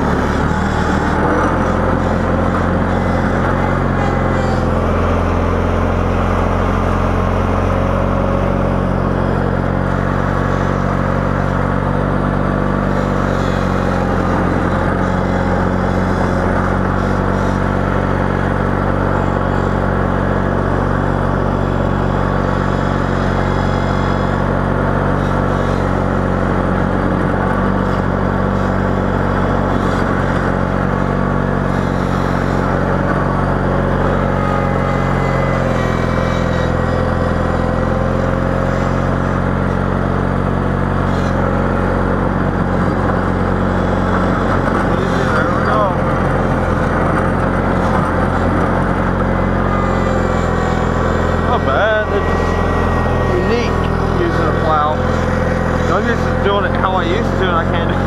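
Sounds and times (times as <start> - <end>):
snow plow engine running: 0.0 - 58.0.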